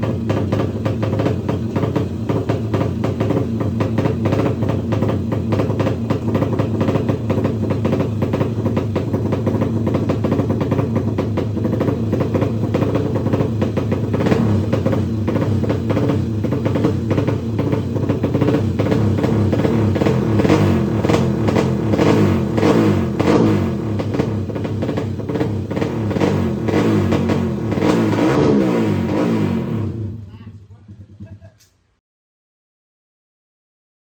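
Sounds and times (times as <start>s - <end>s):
motorcycle engine pulsing: 0.0s - 31.8s.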